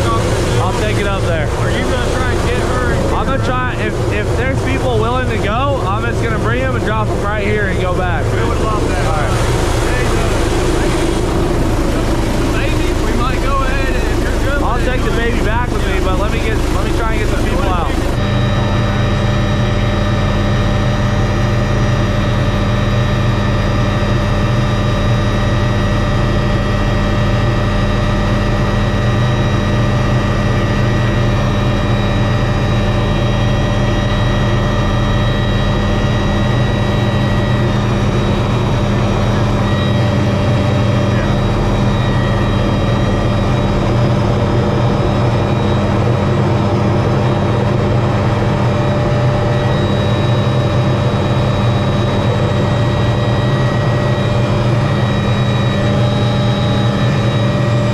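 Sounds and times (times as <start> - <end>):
helicopter turbine and rotor: 0.0 - 57.9.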